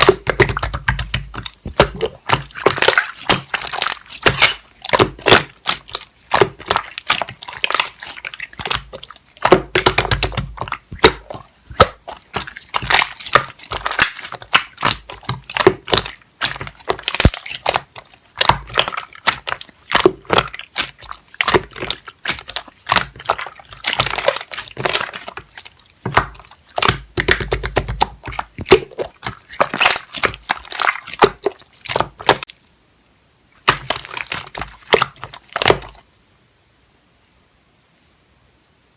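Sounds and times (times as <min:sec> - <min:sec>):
wet slime crackling and popping: 0:00.0 - 0:32.6, 0:33.6 - 0:36.0.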